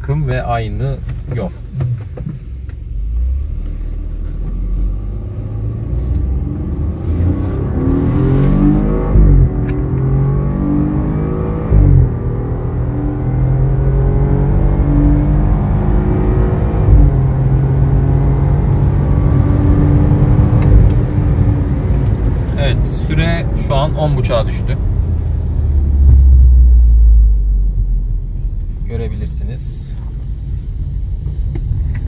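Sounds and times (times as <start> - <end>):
car engine revving: 0.3 - 29.9.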